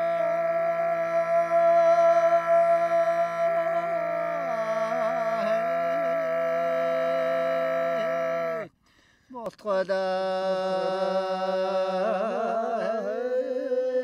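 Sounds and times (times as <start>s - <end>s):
throat singing: 0.0s - 14.0s.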